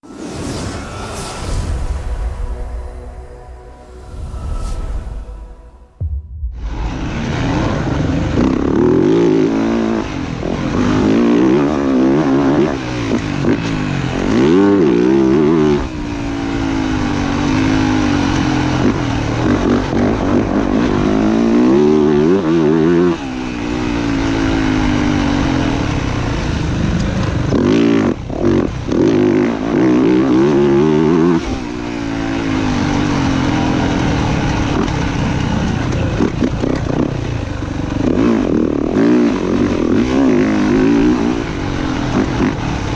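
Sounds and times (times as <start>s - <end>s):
dirt bike engine revving: 6.7s - 42.9s.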